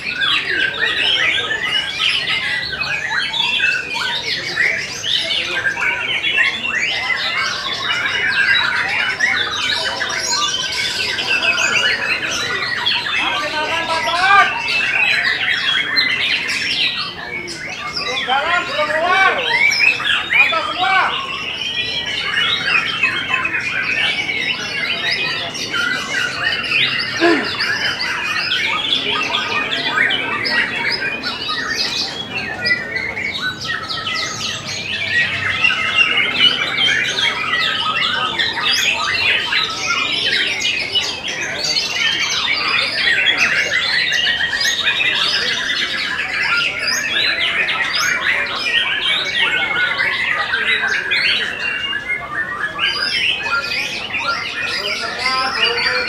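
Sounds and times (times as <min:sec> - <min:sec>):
songbird chirping and trilling: 0:00.0 - 0:56.0.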